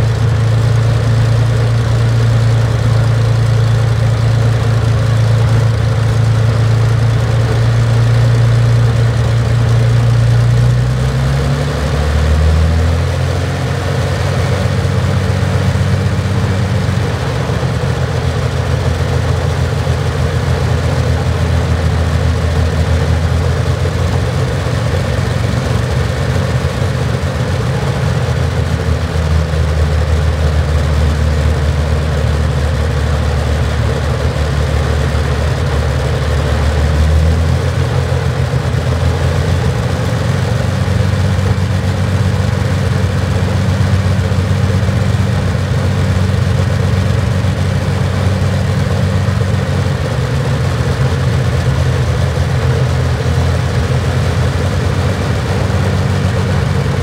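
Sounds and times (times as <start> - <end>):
aero engine running: 0.0 - 57.0.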